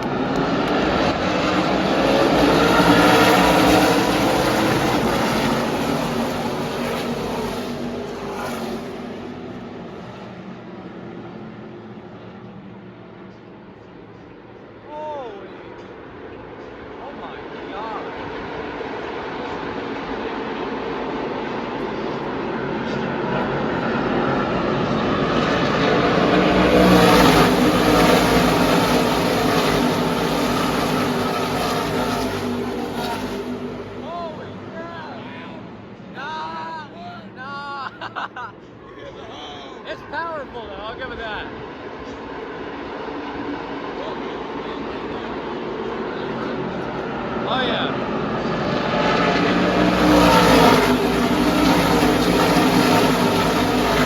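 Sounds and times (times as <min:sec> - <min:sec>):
truck engines passing: 0:00.0 - 0:54.0.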